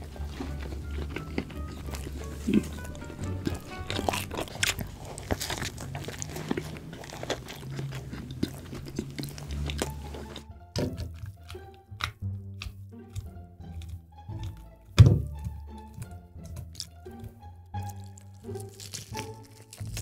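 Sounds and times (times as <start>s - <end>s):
background music: 0.0s - 20.0s
crunchy biting and chewing: 0.0s - 20.0s.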